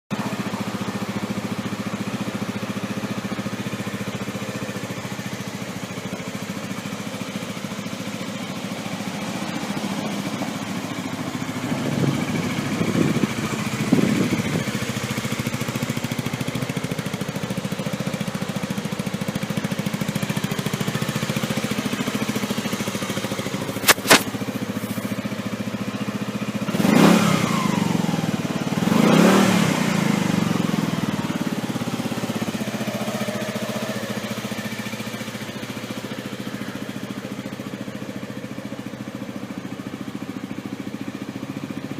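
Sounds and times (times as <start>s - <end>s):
scooter engine idling and revving: 0.1s - 41.9s.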